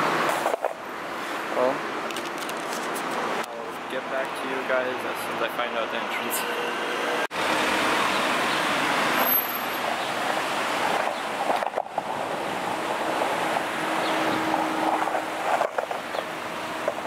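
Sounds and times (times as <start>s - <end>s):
street traffic hiss and rumble: 0.0s - 17.0s.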